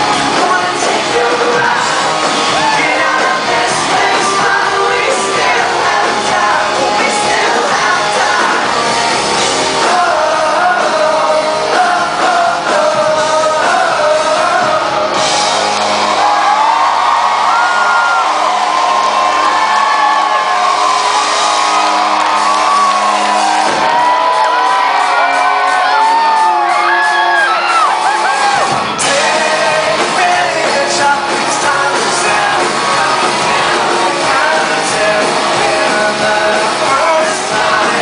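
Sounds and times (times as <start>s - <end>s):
person singing lead vocal: 0.0s - 20.5s, 22.3s - 38.0s
live rock band playing: 0.0s - 38.0s.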